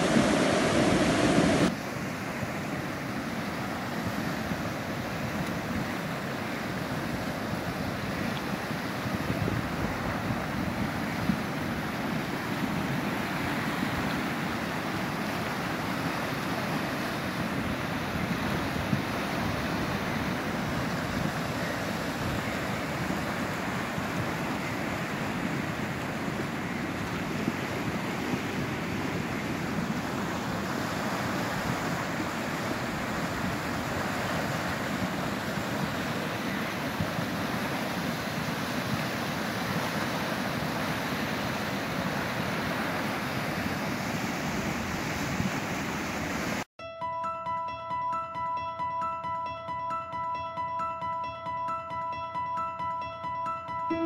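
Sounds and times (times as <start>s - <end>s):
floodwater rushing over weir: 0.0s - 46.6s.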